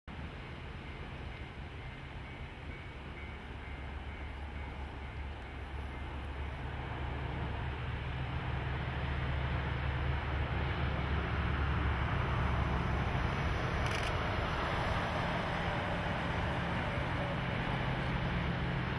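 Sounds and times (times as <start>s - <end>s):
train rumble: 0.1s - 18.9s.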